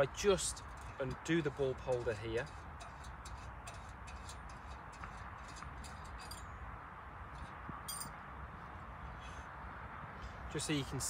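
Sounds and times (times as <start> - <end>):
low outdoor hum: 0.0 - 11.0.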